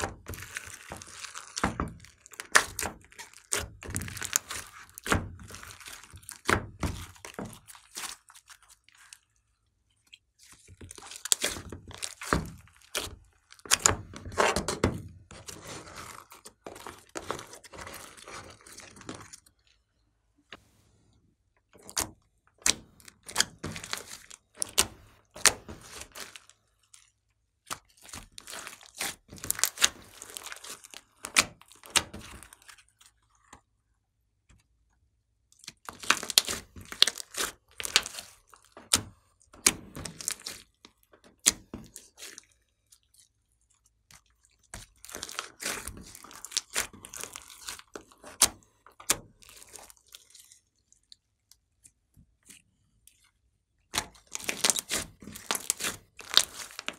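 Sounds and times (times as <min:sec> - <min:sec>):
slime crackling and squelching: 0:00.0 - 0:20.8, 0:21.4 - 0:56.9.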